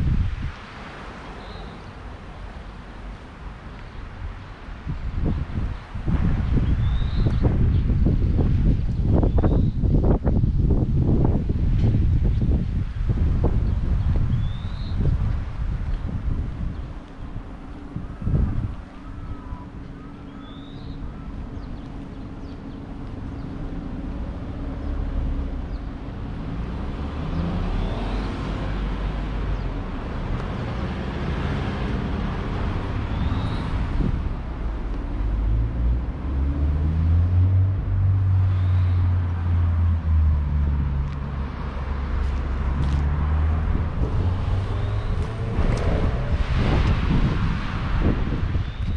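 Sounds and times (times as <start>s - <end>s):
cars passing: 0.0s - 48.9s
low engine hum: 2.0s - 48.9s.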